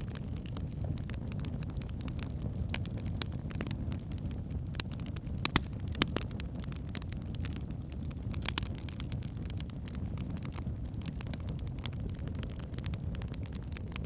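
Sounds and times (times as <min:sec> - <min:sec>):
fire crackling and popping: 0:00.0 - 0:14.0
fire flames rumbling: 0:00.0 - 0:14.0.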